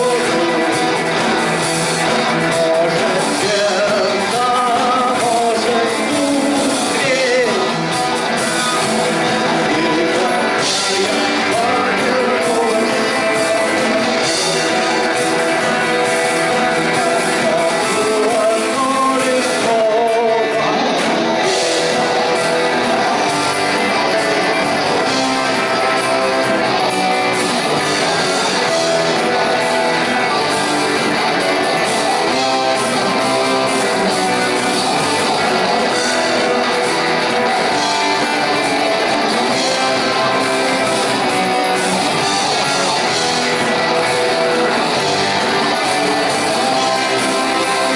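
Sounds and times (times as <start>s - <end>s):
person singing: 0.0s - 47.9s
rock band playing live: 0.0s - 47.9s
strummed guitars: 0.0s - 47.9s.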